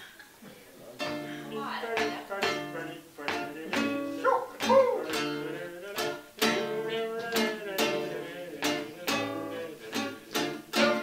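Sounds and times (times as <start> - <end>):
guitar strumming blues chords: 1.0 - 11.0.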